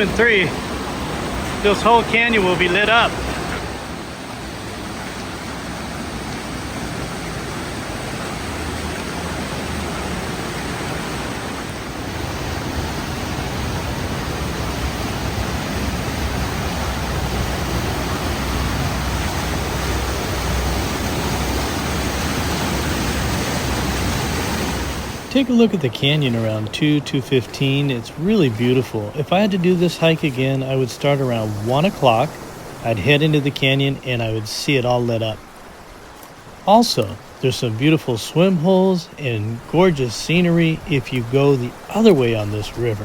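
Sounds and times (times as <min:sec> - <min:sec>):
rushing creek water: 0:00.0 - 0:43.0.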